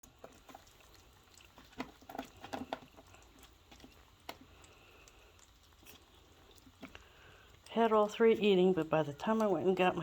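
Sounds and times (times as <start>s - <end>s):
puppies chewing food: 0.0s - 10.0s.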